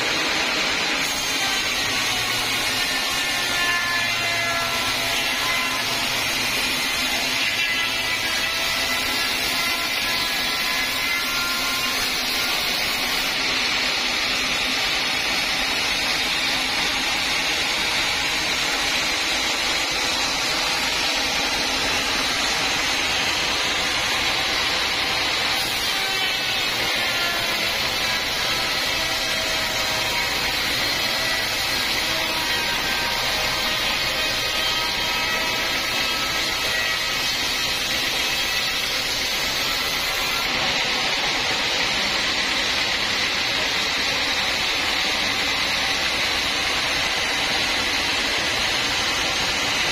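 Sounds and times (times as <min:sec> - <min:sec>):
band saw cutting through log: 0:00.0 - 0:49.9
faint saw whine: 0:00.0 - 0:49.9.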